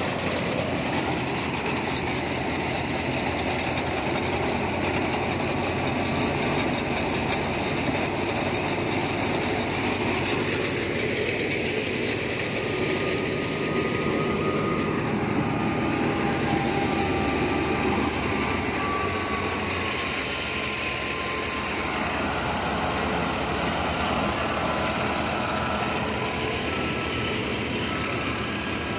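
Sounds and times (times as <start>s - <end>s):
tractor engine: 0.0s - 28.9s
wheat thresher running: 0.0s - 28.9s.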